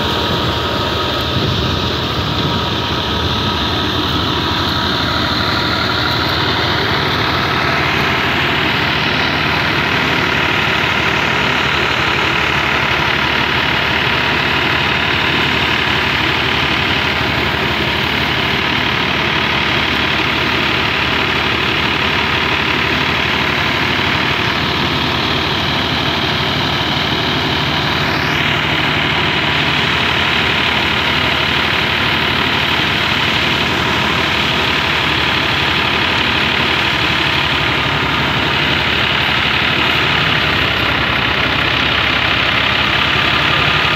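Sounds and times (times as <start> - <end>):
threshing drum whirring: 0.0 - 43.9
tractor engine running under load: 0.0 - 43.9.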